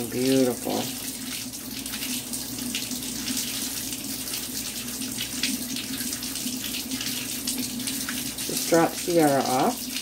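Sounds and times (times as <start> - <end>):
tap water splashing into sink: 0.0 - 10.0.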